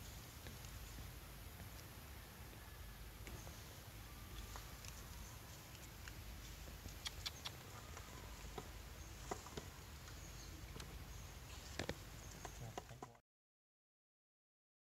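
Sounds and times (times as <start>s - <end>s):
steady outdoor hiss: 0.0s - 13.2s.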